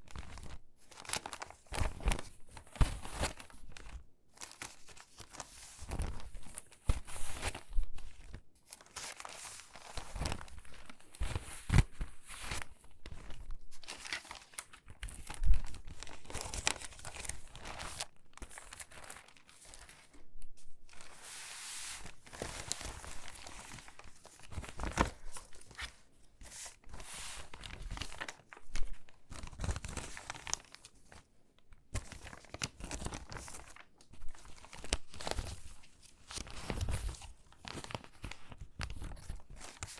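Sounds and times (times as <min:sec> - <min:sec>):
magazine pages rustling and crinkling: 0:00.0 - 0:39.9.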